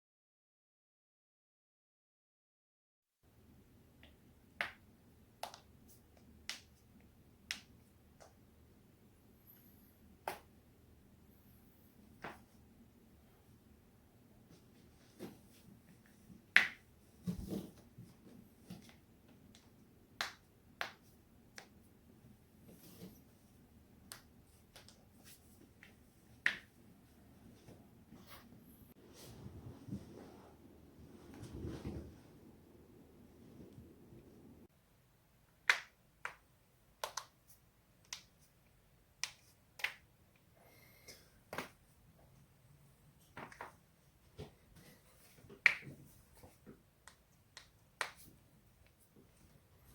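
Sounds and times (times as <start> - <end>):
low background noise: 3.2 - 49.9.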